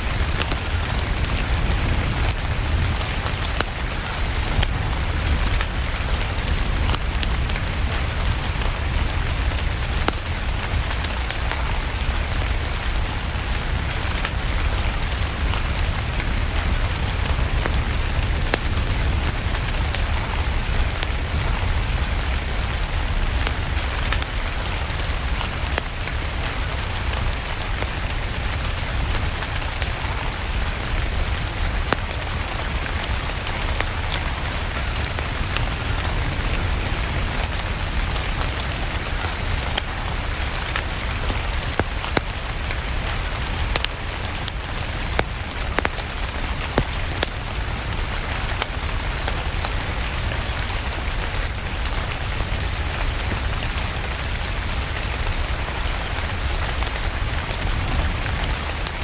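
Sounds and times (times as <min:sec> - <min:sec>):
log fire crackling: 0:00.0 - 0:59.0
steady rain: 0:00.0 - 0:59.0.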